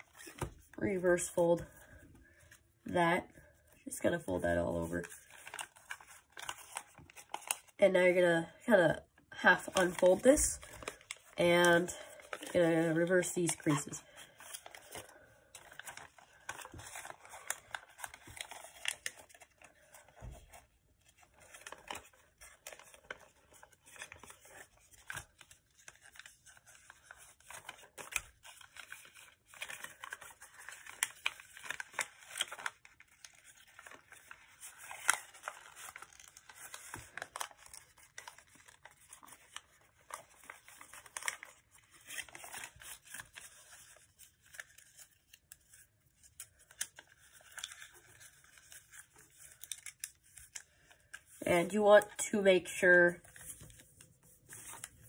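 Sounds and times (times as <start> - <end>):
paper rustling and crackling: 0.0 - 0.8, 4.8 - 7.8, 9.5 - 55.0.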